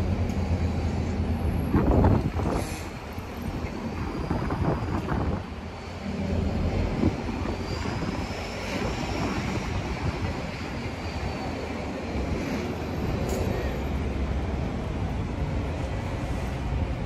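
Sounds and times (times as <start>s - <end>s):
bus engine and road rumble: 0.0s - 17.0s
street traffic: 0.0s - 17.0s.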